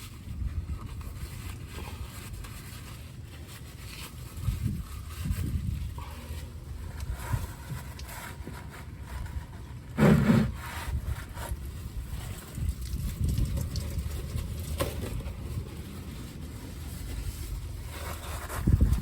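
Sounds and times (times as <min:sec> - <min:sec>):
wind noise on microphone: 0:00.0 - 0:03.0, 0:03.7 - 0:19.0.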